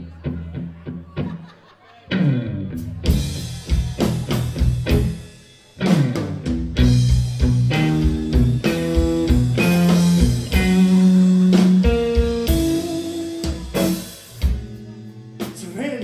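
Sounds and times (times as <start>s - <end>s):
bass guitar: 0.0s - 1.5s, 2.1s - 16.0s
electric guitar: 2.1s - 15.6s
drum kit: 2.1s - 16.0s.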